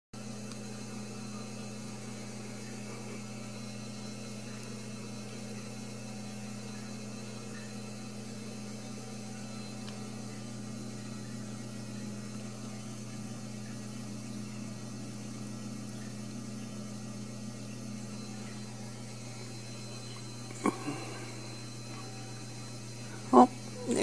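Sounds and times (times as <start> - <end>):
low electrical hum: 0.2 - 24.0.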